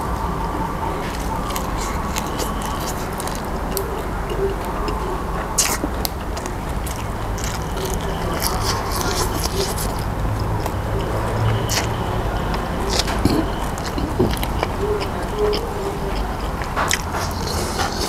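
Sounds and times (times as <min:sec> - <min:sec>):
person chewing crisp herbs: 0:00.0 - 0:18.0
steady background hum: 0:00.0 - 0:18.0
wet clicking mouth sounds: 0:00.4 - 0:18.0.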